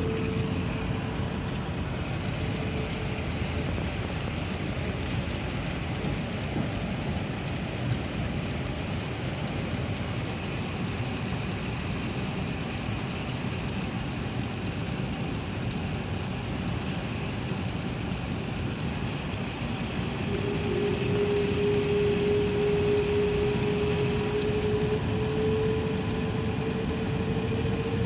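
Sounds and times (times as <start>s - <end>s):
airplane cabin rumble and hiss: 0.0s - 28.0s
jet engine whine: 0.0s - 28.0s.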